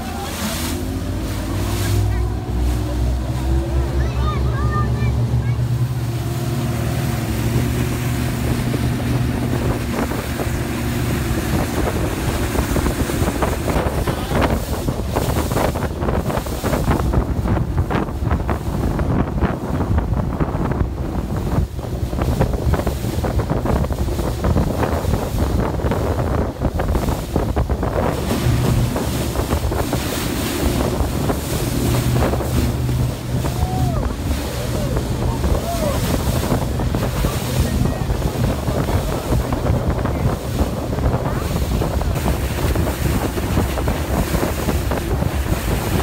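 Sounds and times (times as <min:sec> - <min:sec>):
boat engine humming: 0:00.0 - 0:46.0
water rushing past hull: 0:00.0 - 0:46.0
wind buffeting microphone: 0:00.0 - 0:46.0.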